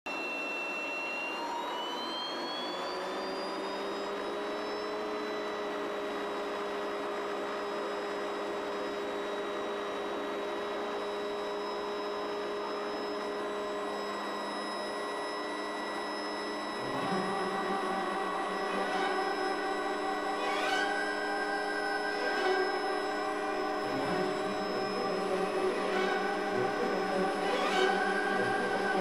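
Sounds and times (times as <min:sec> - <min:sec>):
helicopter turbine whine: 0:00.1 - 0:29.0.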